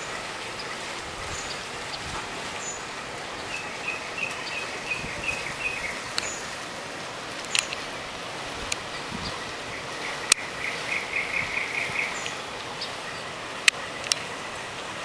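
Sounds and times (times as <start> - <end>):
birds chirping: 0.0 - 15.0
steady hiss: 0.0 - 15.0.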